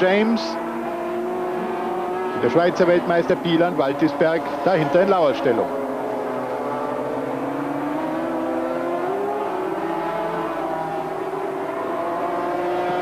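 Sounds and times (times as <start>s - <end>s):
two-stroke engine at high revs: 0.0s - 13.0s.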